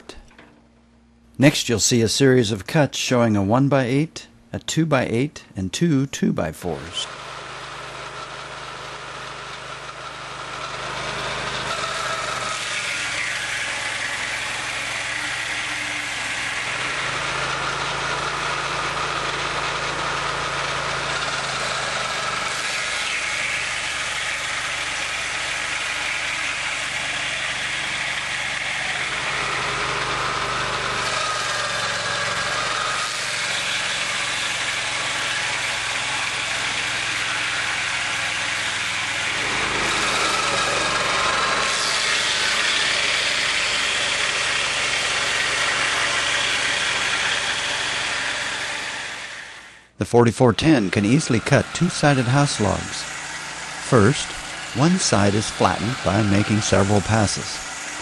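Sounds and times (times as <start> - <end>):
circular saw blades cutting log: 6.7 - 58.0
gas engine running under load: 7.0 - 58.0.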